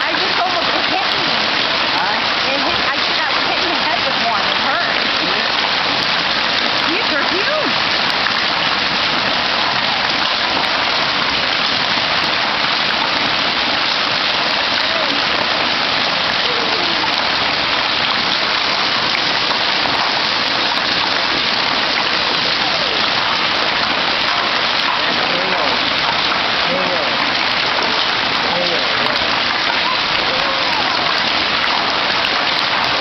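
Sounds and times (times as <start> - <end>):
hail pelting roofs and pavement: 0.0 - 33.0.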